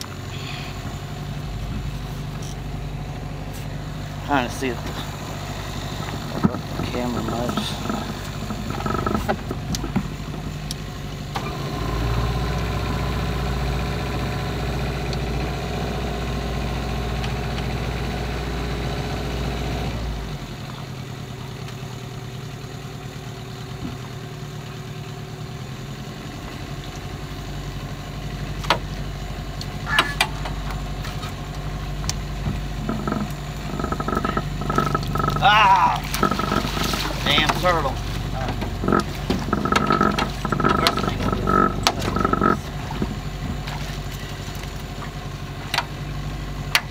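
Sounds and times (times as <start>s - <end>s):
small boat motor running: 0.0s - 46.9s.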